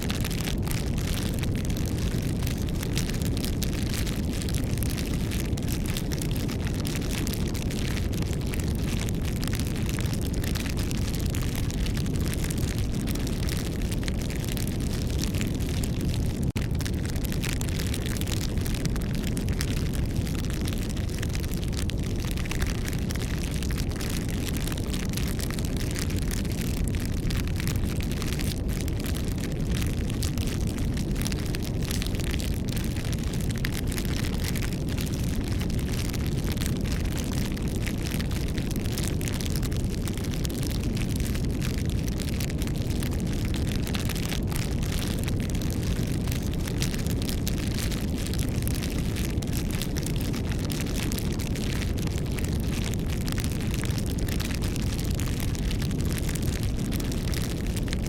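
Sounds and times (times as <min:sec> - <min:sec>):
campfire flames rumbling: 0:00.0 - 0:58.0
wood crackling and popping: 0:00.0 - 0:58.0.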